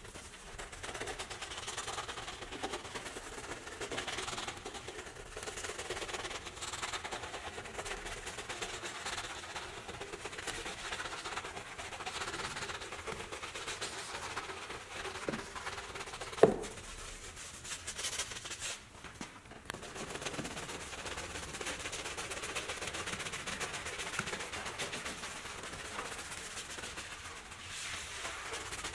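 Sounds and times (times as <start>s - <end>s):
brush scrubbing soapy foam: 0.0s - 18.9s, 19.7s - 28.9s.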